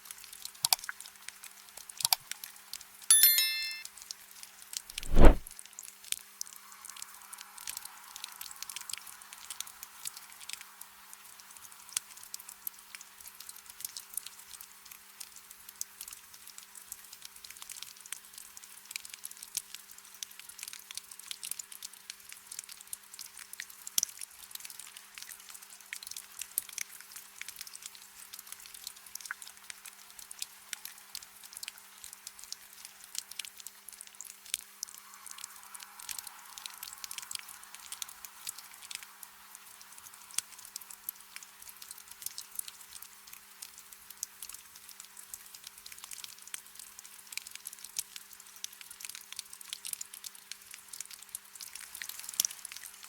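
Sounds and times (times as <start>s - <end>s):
rain drops pattering: 7.6s - 53.0s.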